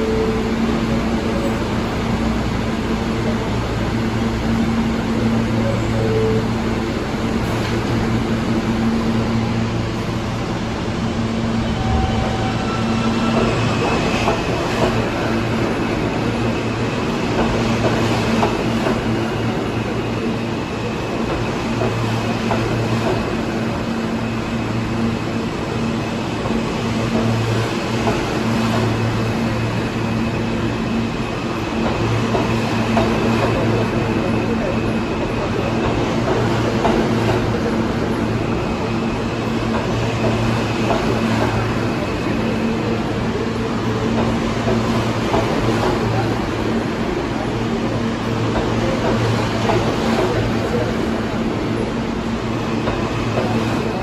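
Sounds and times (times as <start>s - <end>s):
subway train rumbling: 0.0s - 54.0s.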